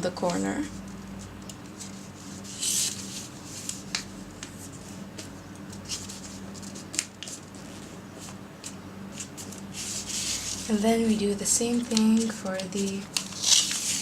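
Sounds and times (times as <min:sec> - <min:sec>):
paper rustling and crackling: 0:01.1 - 0:14.0.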